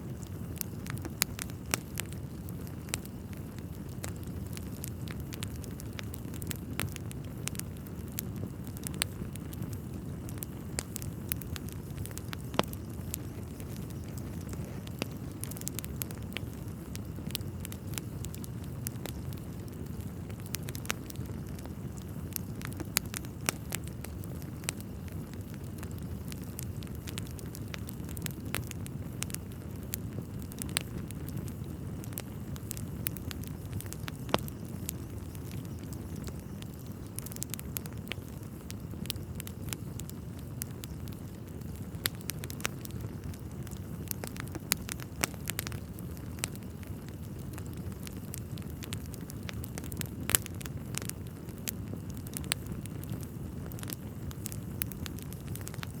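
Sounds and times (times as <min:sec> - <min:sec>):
fire low rumble: 0:00.0 - 0:56.0
logs crackling and popping: 0:00.0 - 0:56.0.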